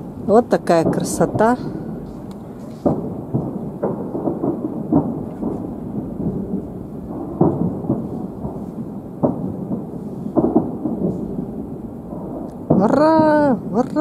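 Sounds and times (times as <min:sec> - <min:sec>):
distant firework booms: 0:00.0 - 0:14.0
sharp firework bangs: 0:00.0 - 0:14.0.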